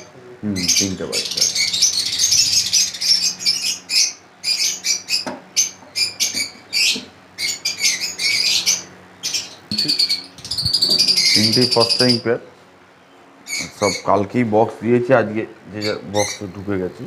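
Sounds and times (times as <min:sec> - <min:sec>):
birds chirping and squawking: 0:00.0 - 0:17.0.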